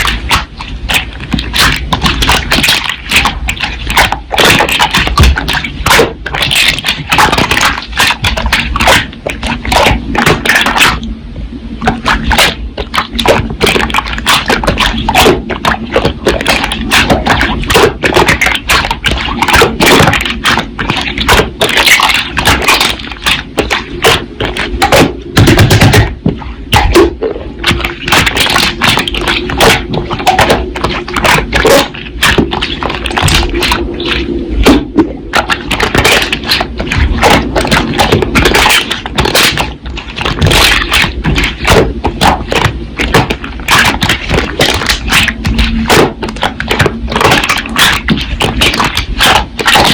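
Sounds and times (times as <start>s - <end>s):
slime squished by hand: 0.0s - 11.1s, 11.8s - 49.9s.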